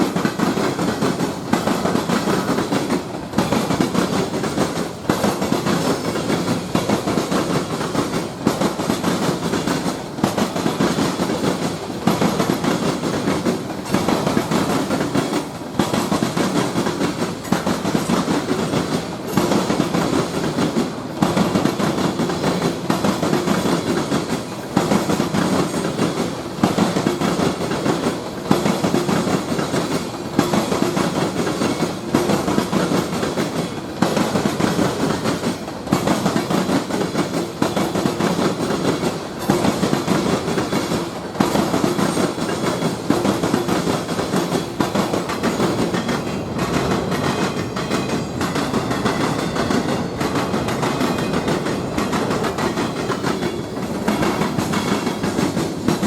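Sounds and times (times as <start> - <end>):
train wheels clacking over rails: 0.0 - 56.0.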